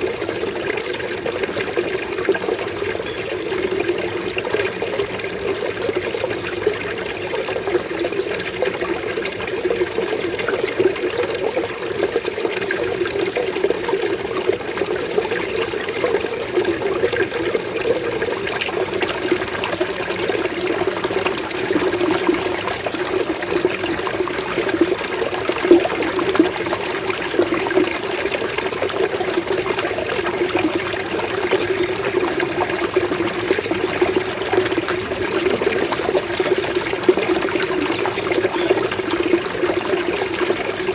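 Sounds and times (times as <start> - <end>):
water gurgling: 0.0 - 40.9.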